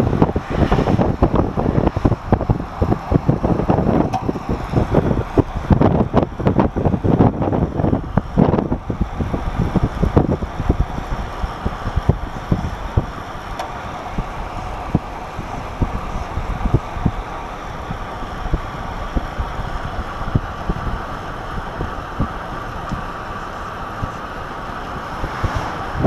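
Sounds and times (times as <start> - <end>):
road noise: 0.0 - 26.0
wind buffeting microphone: 0.0 - 26.0.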